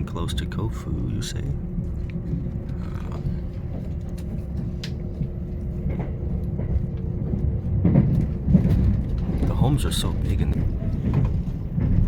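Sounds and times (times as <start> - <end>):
train rumbling from inside cabin: 0.0 - 12.0.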